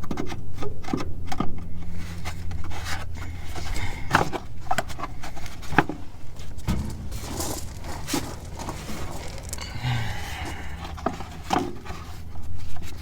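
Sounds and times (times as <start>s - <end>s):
car parts knocking and scraping: 0.0s - 13.0s.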